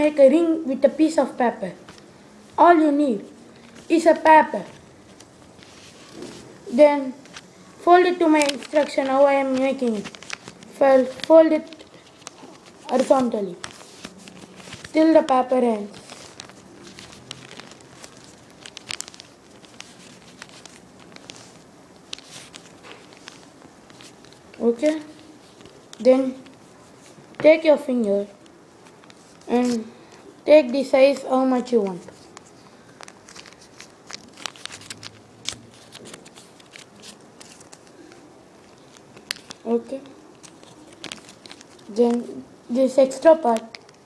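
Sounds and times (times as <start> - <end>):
paper crinkling and rustling: 3.5 - 30.2, 31.1 - 44.0
sharp paper crackles: 7.1 - 30.2, 31.1 - 44.0.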